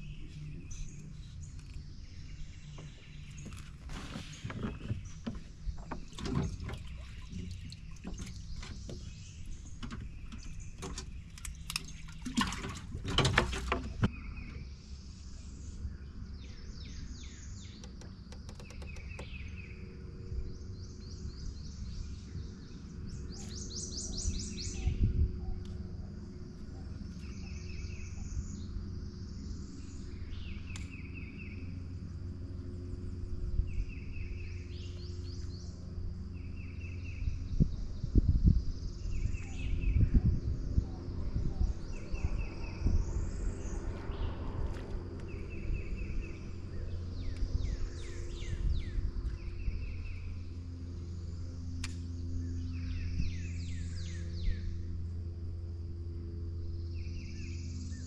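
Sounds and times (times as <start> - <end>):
steady low rumble: 0.0 - 13.1, 13.9 - 58.0
songbirds singing: 0.0 - 58.0.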